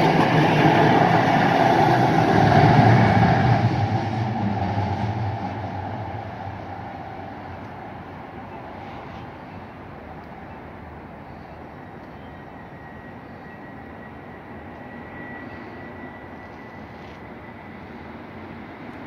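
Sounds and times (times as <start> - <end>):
light rail train passing: 0.0 - 19.0.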